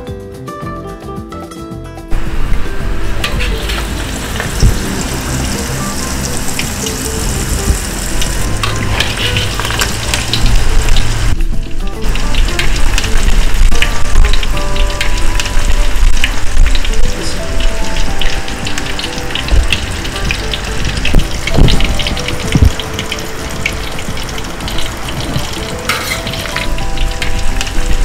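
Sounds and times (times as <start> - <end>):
hot oil sizzling and crackling: 2.1 - 28.0.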